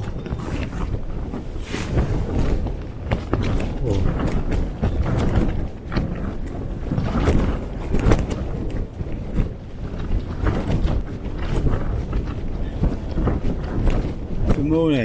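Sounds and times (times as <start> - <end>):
tent fabric flapping: 0.0 - 15.0
wind rumbling: 0.0 - 15.0.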